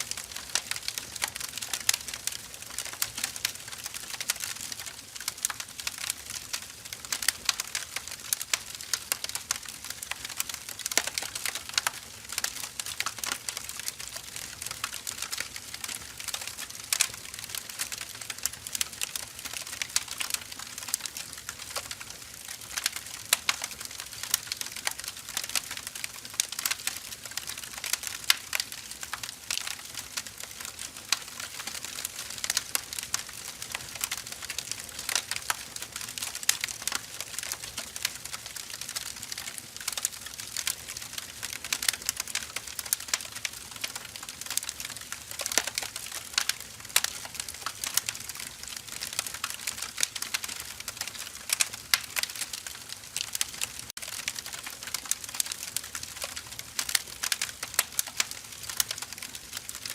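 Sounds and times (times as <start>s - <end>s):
fire crackling and popping: 0.0s - 59.9s
soft steady hiss of fire: 0.0s - 59.9s.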